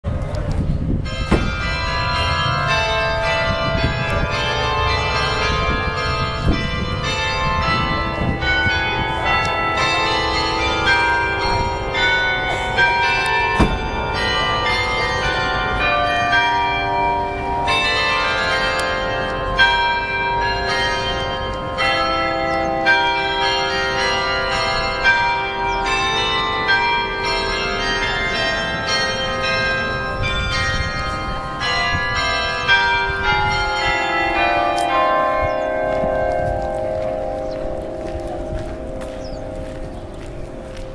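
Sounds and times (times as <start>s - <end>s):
cathedral bells ringing: 0.1s - 40.9s.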